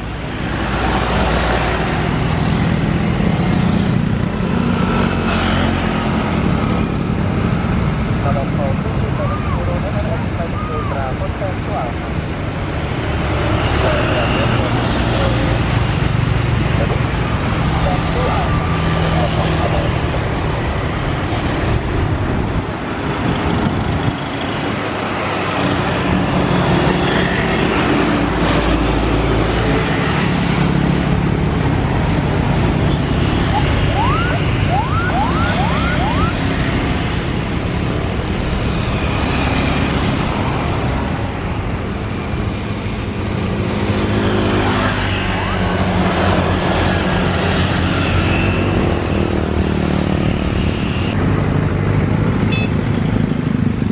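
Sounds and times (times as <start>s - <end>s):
road traffic engines: 0.0s - 53.9s.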